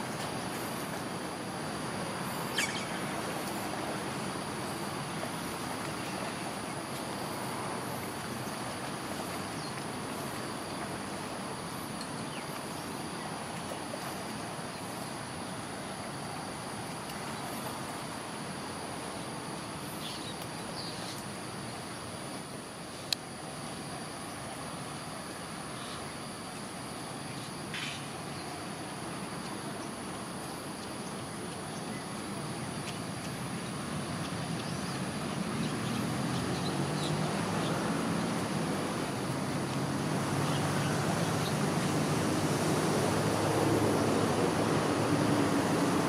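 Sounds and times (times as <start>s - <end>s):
insects buzzing: 0.0s - 46.0s.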